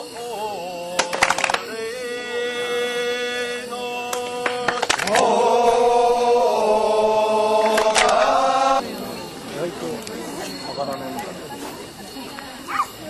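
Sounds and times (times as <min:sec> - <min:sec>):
voices chanting held notes: 0:00.0 - 0:13.0.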